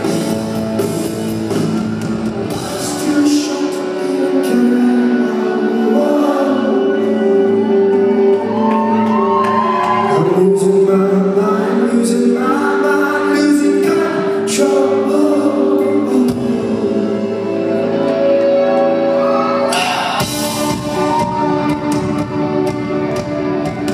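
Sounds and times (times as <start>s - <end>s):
lead singer singing: 0.0s - 21.9s
rock band playing live: 0.0s - 23.9s.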